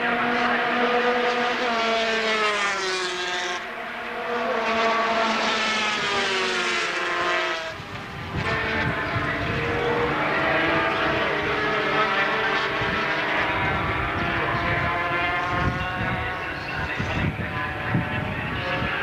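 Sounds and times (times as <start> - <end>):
racing motorcycles passing: 0.0 - 19.0.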